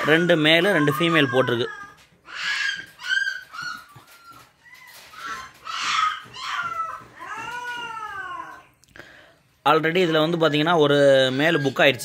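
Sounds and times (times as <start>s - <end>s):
puppies squeaking and whimpering: 0.0s - 8.8s, 10.0s - 12.0s.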